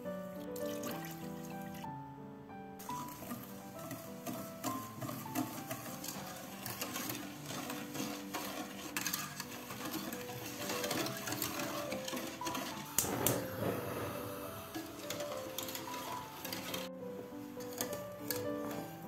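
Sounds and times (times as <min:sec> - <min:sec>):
soft background music: 0:00.0 - 0:19.0
wire whisk clattering in pot: 0:02.8 - 0:19.0.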